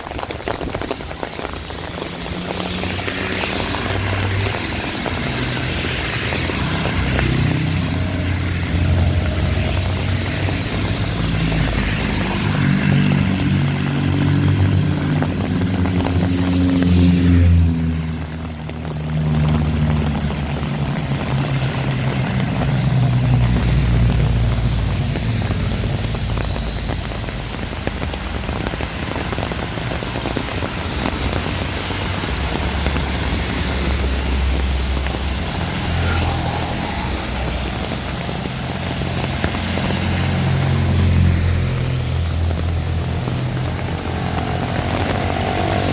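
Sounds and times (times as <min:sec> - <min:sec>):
heavy rain falling: 0:00.0 - 0:45.9
low rumble: 0:00.0 - 0:45.9.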